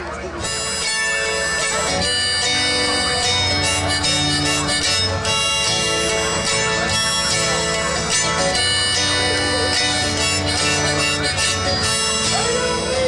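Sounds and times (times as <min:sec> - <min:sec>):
acoustic guitar strumming: 0:00.1 - 0:13.0
steel-strung instrument strummed: 0:00.1 - 0:13.0
sustained melody: 0:00.3 - 0:13.0.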